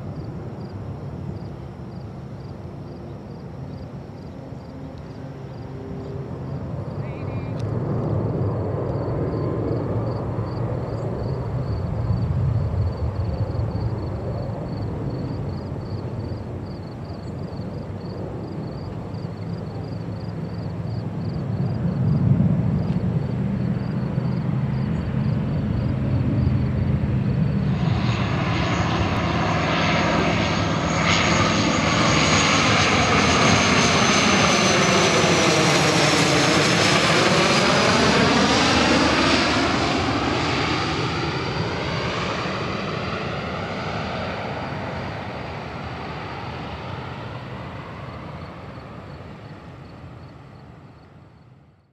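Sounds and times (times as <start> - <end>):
distant jet rumble: 0.0 - 51.5
turboprop passing overhead: 4.0 - 51.0.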